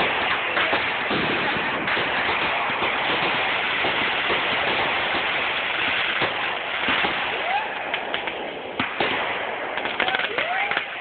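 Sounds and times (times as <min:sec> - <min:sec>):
fireworks crackling: 0:00.0 - 0:11.0
sharp firework bangs: 0:00.0 - 0:11.0.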